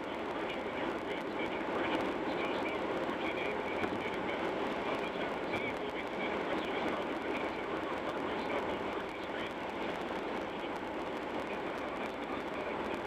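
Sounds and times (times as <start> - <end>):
radio static hissing: 0.0 - 13.0.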